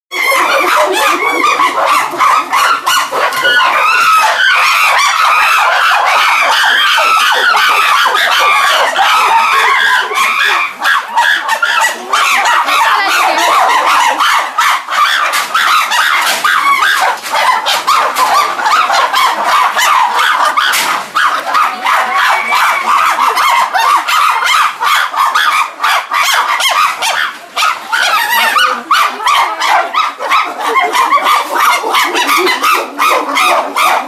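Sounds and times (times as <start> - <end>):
chimpanzees crying out: 0.1 - 34.0.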